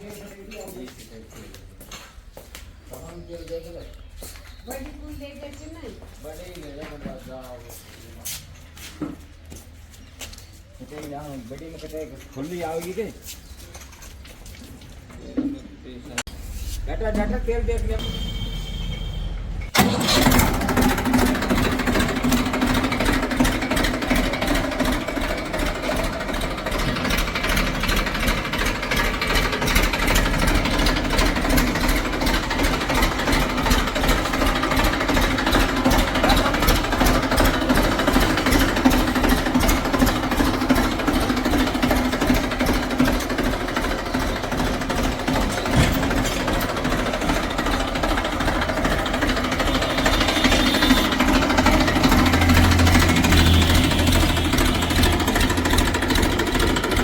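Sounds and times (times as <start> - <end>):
diesel engine clattering: 0.0 - 57.0.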